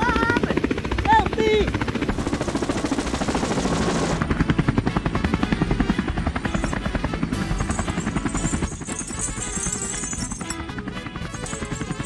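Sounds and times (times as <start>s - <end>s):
helicopter rotor blades chopping: 0.0s - 12.0s.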